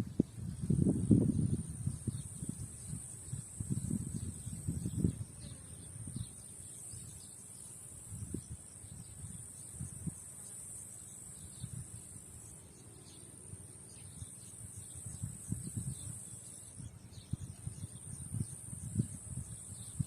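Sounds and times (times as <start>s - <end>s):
insects trilling: 0.5s - 20.0s.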